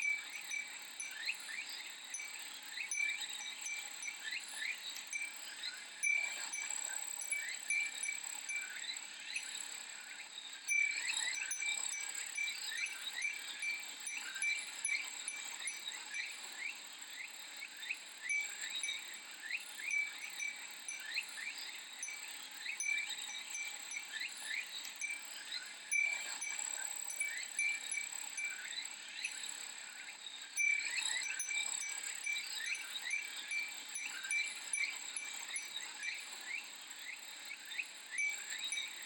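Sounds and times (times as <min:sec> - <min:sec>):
cicadas singing: 0:00.0 - 0:09.6, 0:10.5 - 0:39.0
wind chime tinkling: 0:00.0 - 0:09.6, 0:10.7 - 0:16.7, 0:18.2 - 0:29.6, 0:30.4 - 0:39.0.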